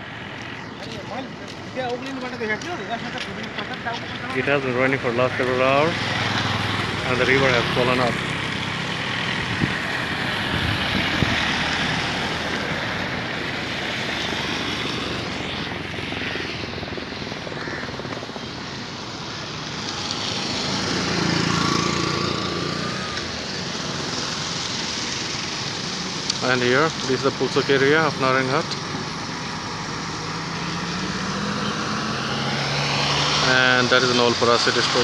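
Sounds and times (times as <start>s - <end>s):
vehicle engines passing: 0.0s - 35.0s.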